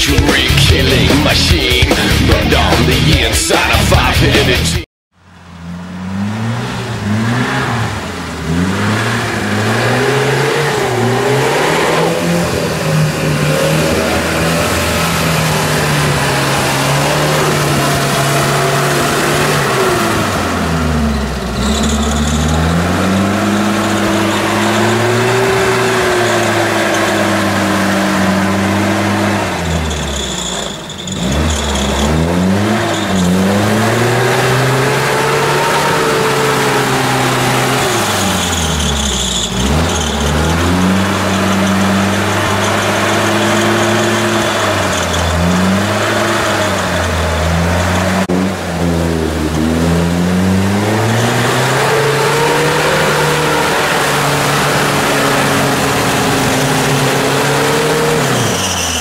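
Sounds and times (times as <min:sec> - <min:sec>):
off-road engine revving: 0:00.0 - 0:59.0.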